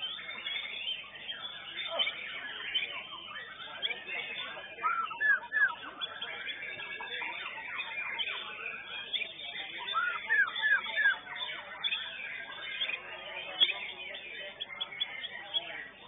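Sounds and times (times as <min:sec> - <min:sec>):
birds singing whistles and chatter: 0:00.0 - 0:16.0.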